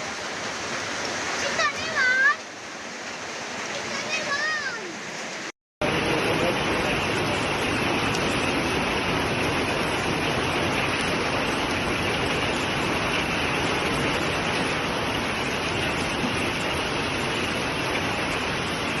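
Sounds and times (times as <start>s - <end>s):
rushing storm water: 0.0s - 19.0s.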